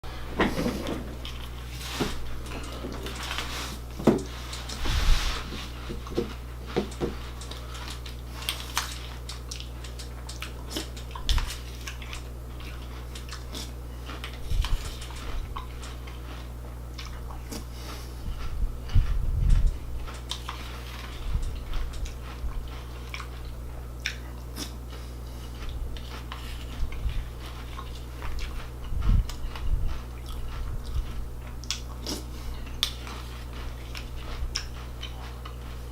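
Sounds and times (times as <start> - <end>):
cereal crunching and chewing: 1.1 - 35.9.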